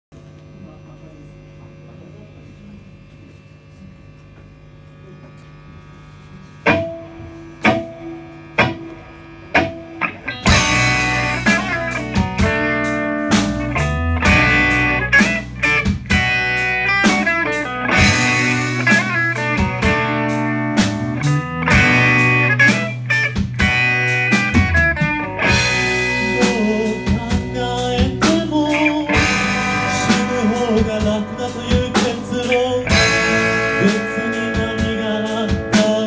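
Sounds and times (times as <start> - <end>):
amplifier hum: 0.2 - 36.0
electric guitar chords: 0.2 - 36.0
rock band playing loudly: 6.6 - 36.0.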